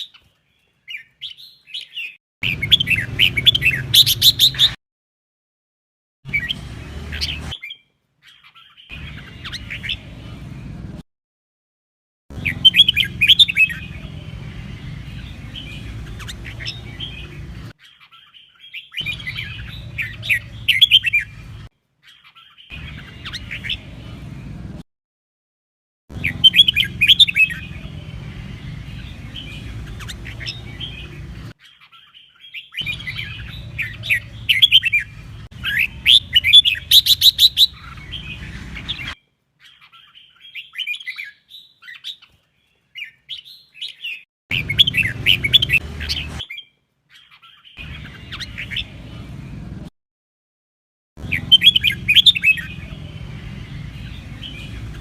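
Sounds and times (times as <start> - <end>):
bird singing chirping phrases: 0.0 - 4.8, 6.3 - 11.0, 12.3 - 24.8, 26.1 - 49.9, 51.2 - 55.0.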